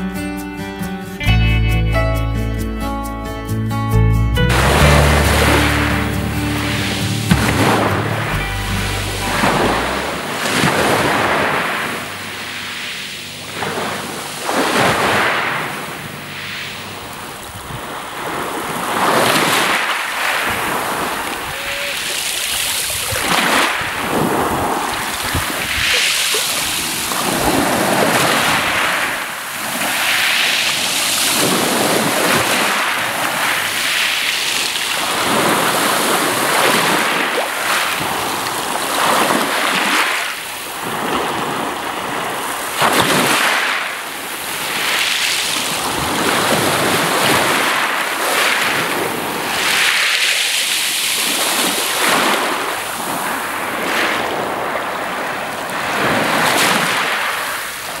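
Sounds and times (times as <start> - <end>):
waves washing over pebbles: 4.5 - 58.0.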